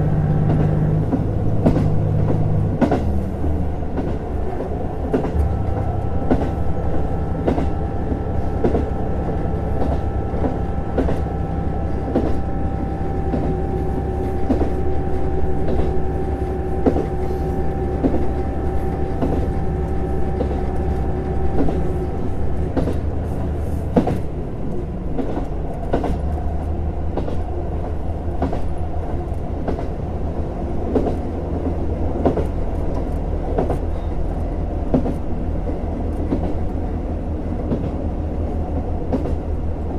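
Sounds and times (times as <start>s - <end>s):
railcar low rumble: 0.0s - 39.9s.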